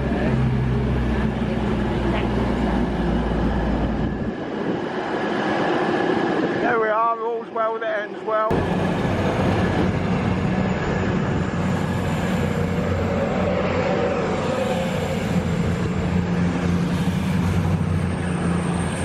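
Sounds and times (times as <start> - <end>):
diesel train engine humming: 0.0 - 6.0, 8.5 - 19.0.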